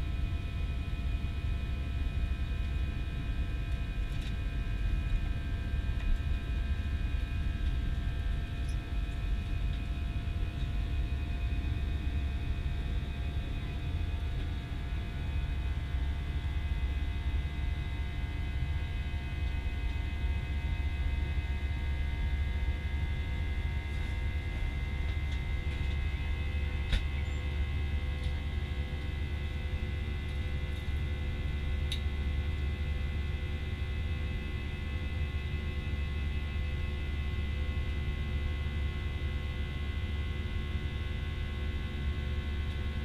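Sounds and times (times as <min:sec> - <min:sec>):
aircraft cabin engine rumble: 0:00.0 - 0:43.0
faint steady whining tones: 0:00.0 - 0:43.0.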